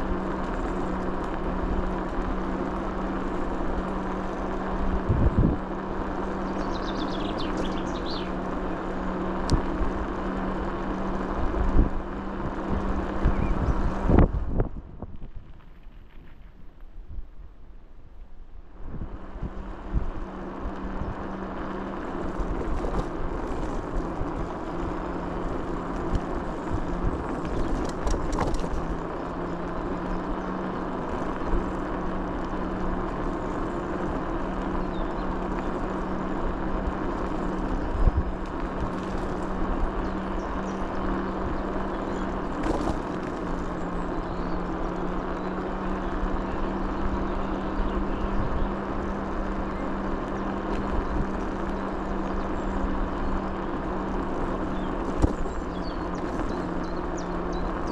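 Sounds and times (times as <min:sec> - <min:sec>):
road noise: 0:00.0 - 0:57.9
vehicle engine drone: 0:00.0 - 0:57.9.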